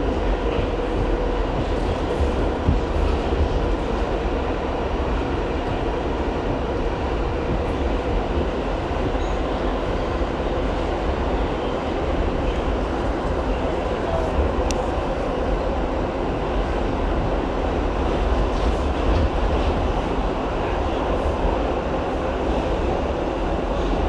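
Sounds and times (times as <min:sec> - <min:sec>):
subway train rail rumble: 0:00.0 - 0:24.0.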